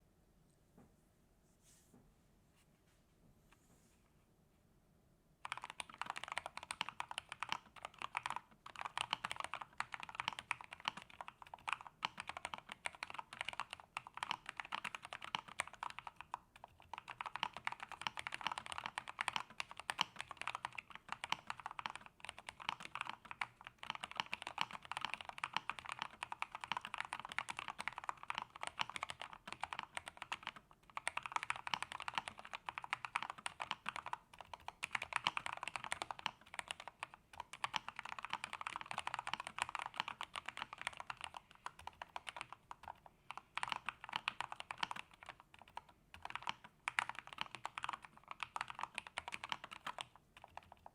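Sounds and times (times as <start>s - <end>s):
fast mechanical keyboard typing: 5.4s - 50.9s.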